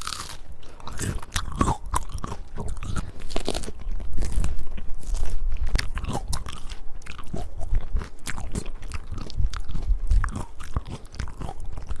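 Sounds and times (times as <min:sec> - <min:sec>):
person biting and chewing peach: 0:00.0 - 0:12.0.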